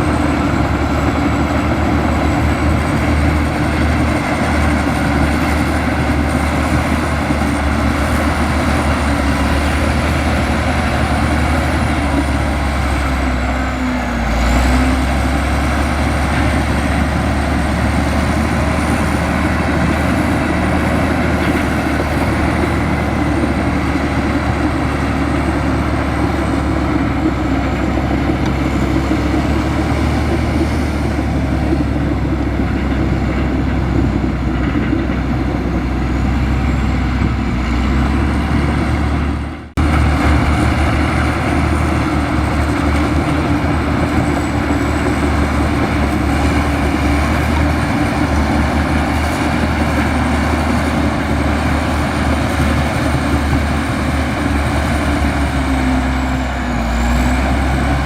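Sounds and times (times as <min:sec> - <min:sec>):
bulldozer diesel engine: 0:00.0 - 0:58.0.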